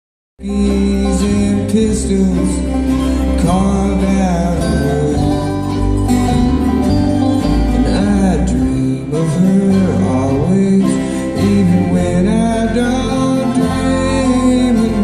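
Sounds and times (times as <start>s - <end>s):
bluegrass string band playing: 0.4s - 15.0s.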